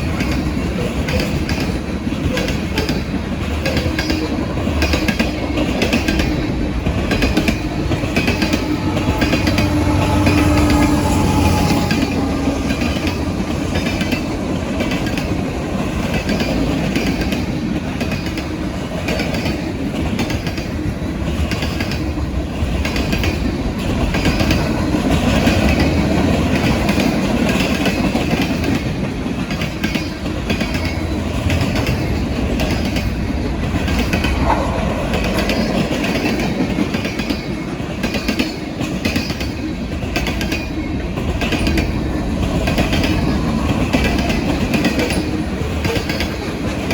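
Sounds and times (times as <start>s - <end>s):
freight train wheels clicking: 0.0s - 46.9s
train rumble: 0.0s - 46.9s.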